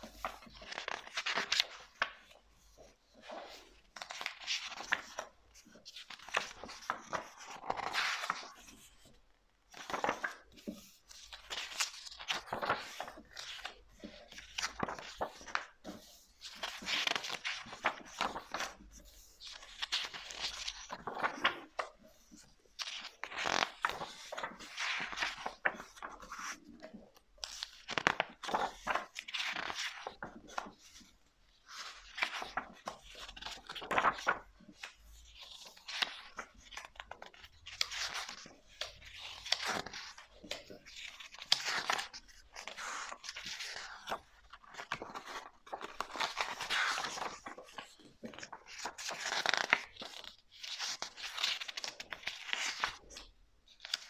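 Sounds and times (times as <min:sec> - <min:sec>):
book pages being turned: 0:00.0 - 0:54.0.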